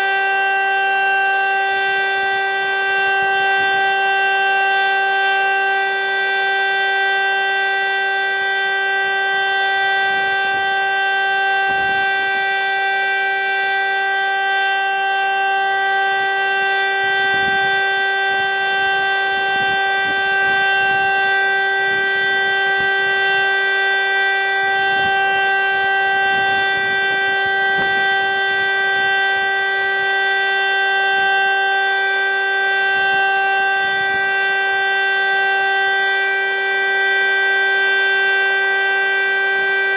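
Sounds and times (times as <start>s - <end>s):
electric motor siren steady tone: 0.0s - 39.9s.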